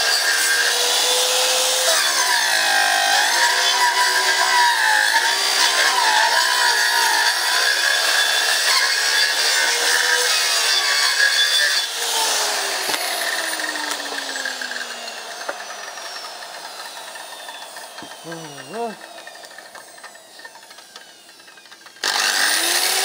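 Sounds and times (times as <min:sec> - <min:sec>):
power saw cutting wood: 0:00.0 - 0:23.0.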